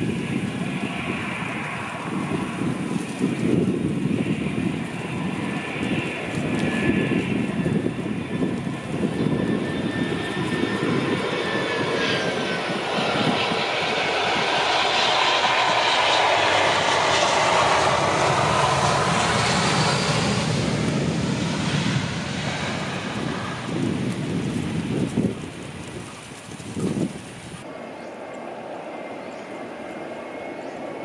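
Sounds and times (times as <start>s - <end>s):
jet airliner passing: 0.0s - 31.0s.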